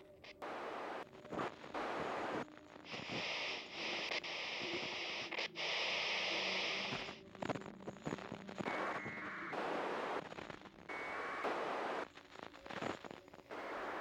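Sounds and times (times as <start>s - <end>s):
static-like hiss: 0.0s - 14.0s.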